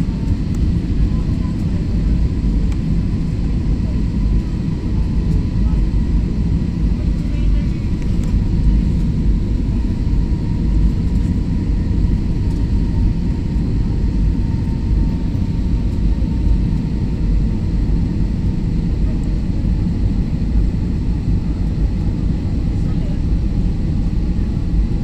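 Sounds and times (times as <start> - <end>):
jet engine and airflow rumble: 0.0 - 25.0.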